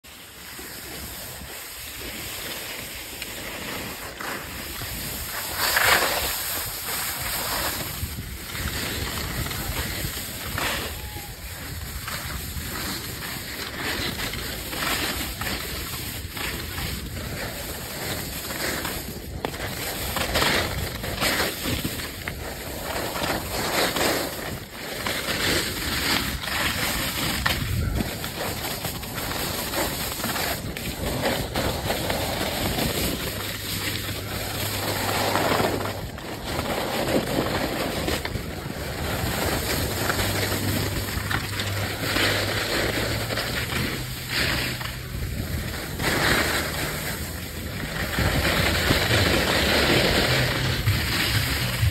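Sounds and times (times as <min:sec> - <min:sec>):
skis scraping over snow: 0:00.1 - 0:51.9
wind on microphone: 0:03.4 - 0:51.9.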